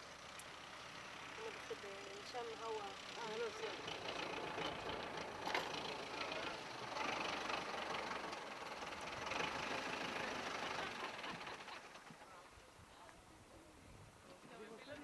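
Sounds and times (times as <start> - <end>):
tractor engine running: 0.0 - 12.8
outdoor background noise: 0.0 - 15.0.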